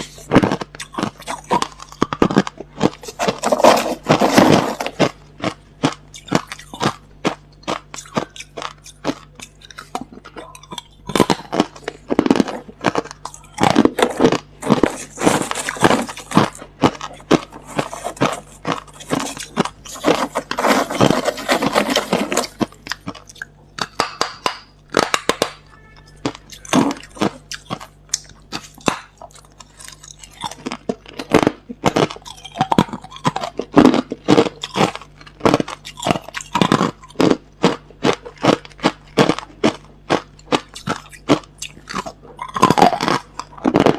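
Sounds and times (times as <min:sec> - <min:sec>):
crushed ice being chewed: 0:00.0 - 0:43.9.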